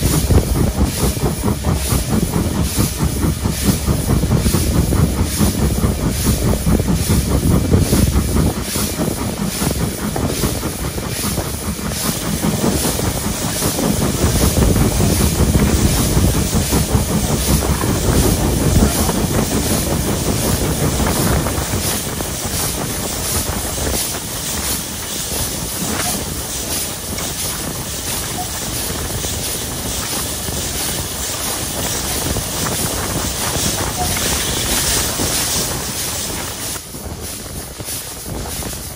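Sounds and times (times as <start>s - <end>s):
rail noise: 0.0s - 38.9s
rush of steam: 0.0s - 38.9s
steam locomotive exhaust beats: 0.0s - 38.9s.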